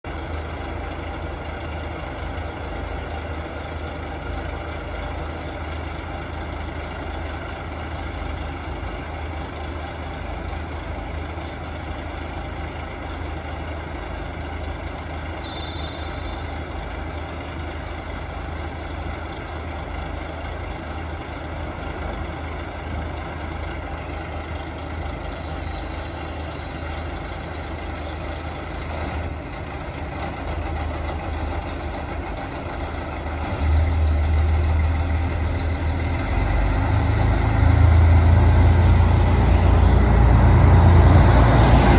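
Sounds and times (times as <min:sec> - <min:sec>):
diesel railcar engine idling: 0:00.0 - 0:41.9.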